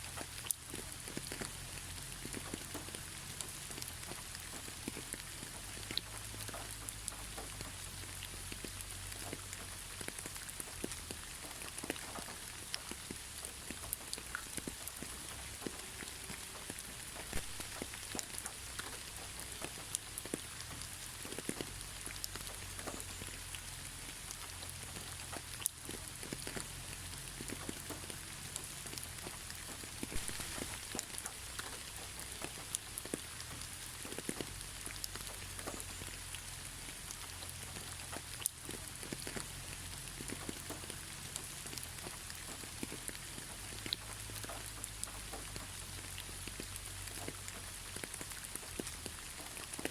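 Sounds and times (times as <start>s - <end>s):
gentle rain pattering: 0.0s - 49.9s.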